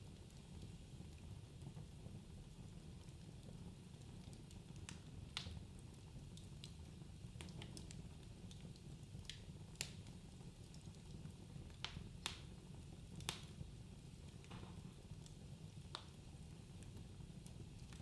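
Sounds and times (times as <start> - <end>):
wood fire crackling and popping: 0.1 - 18.0.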